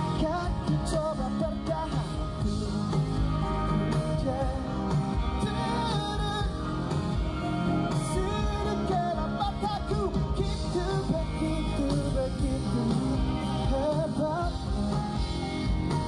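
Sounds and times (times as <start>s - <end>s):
live pop-rock band playing: 0.0s - 16.0s
man singing: 0.0s - 16.0s.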